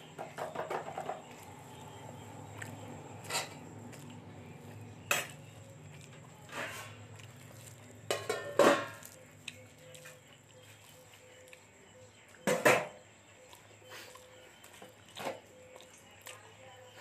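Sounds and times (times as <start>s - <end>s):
steady low hum: 0.0s - 17.0s
chewing and lip smacks: 1.2s - 8.0s, 9.0s - 12.4s, 13.4s - 17.0s.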